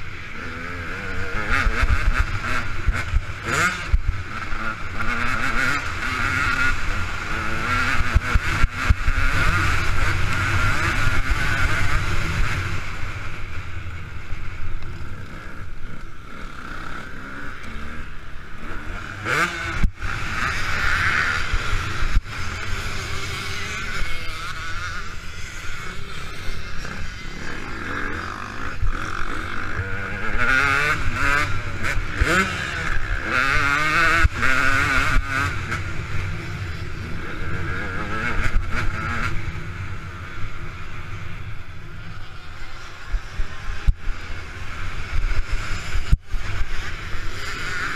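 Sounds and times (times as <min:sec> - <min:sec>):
two-stroke motorcycle engine revving: 0:00.0 - 0:47.9.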